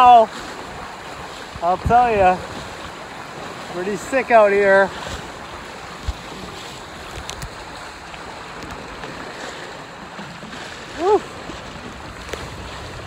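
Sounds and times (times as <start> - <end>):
wind buffeting microphone: 0.0 - 3.8, 4.5 - 13.0
water rushing past hulls: 0.0 - 13.0.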